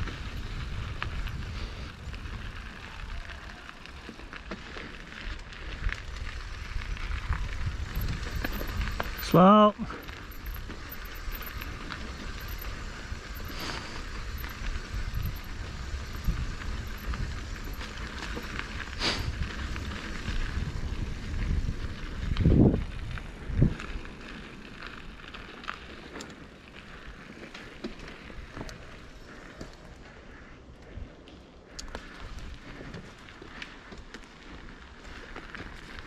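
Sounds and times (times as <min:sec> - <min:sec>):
bike rattles and clicks: 0:00.0 - 0:36.0
bike tyres rumbling on dirt: 0:00.0 - 0:36.0.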